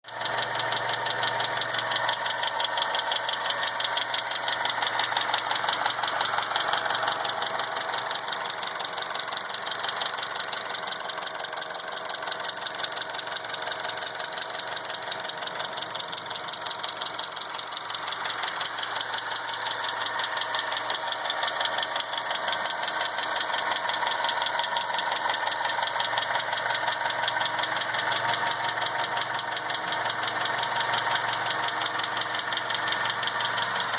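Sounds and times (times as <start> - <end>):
fast even engine ticking: 0.0 - 33.9
car engine running: 0.1 - 33.9.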